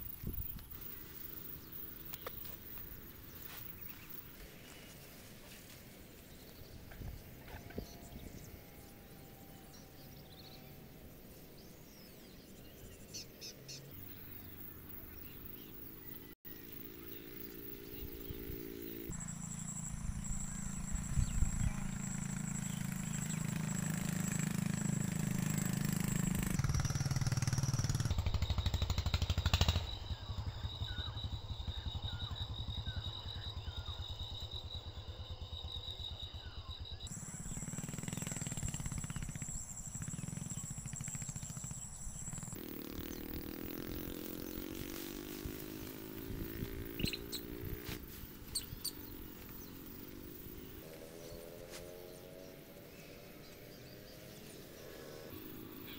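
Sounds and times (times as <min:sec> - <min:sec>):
small engine pulsing: 0:00.0 - 0:55.9.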